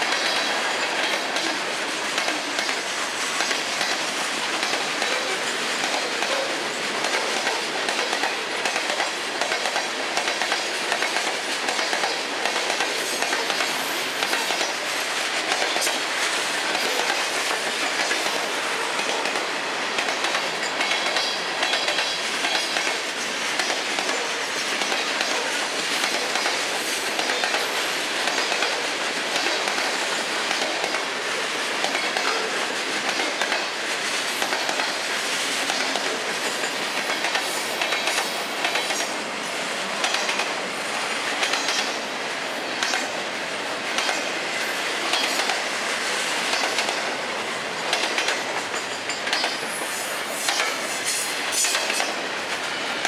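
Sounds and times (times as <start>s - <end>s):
wheels clicking over rail joints: 0.0s - 39.2s, 40.0s - 40.7s, 41.3s - 53.0s
train wheels rumbling on rails: 0.0s - 53.0s.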